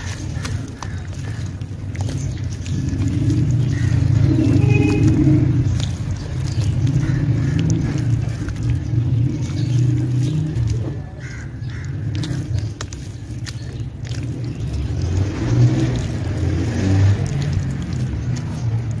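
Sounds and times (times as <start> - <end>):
wet mud squelching and slopping: 0.0 - 19.0.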